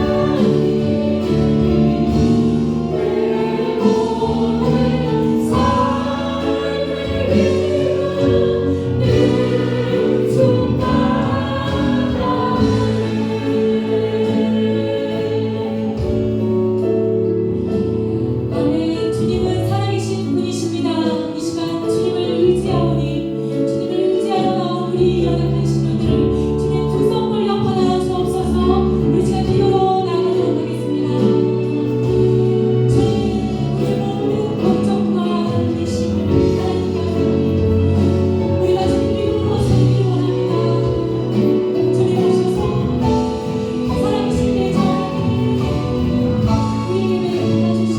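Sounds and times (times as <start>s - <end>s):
praise band and singers: 0.0s - 47.9s.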